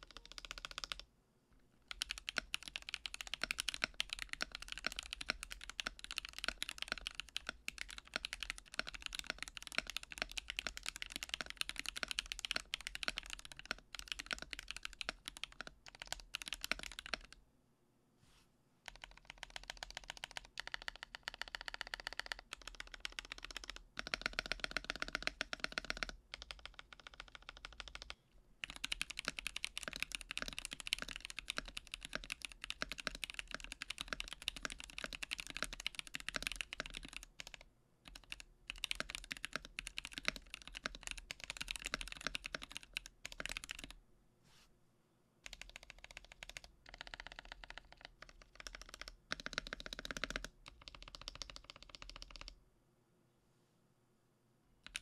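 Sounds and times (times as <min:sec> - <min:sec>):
mechanical keyboard typing: 0:00.0 - 0:01.0, 0:01.9 - 0:17.4, 0:18.8 - 0:44.0, 0:45.4 - 0:52.6.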